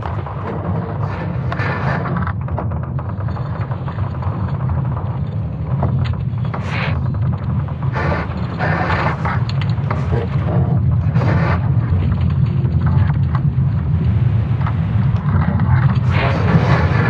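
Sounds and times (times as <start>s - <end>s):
creaking and crackling: 0.0s - 17.0s
deep rumble: 0.0s - 17.0s.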